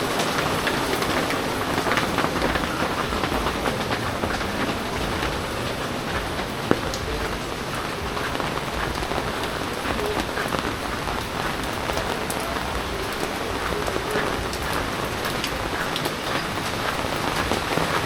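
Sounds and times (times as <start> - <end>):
heavy rain falling: 0.0 - 18.0
raindrops pattering on surfaces: 0.0 - 18.0.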